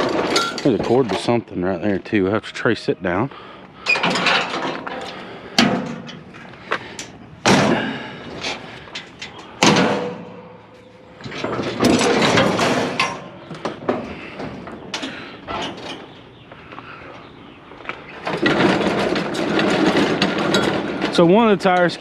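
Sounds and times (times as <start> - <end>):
scrap metal knocking and clanking: 0.0 - 2.0, 3.8 - 16.4, 18.2 - 22.0.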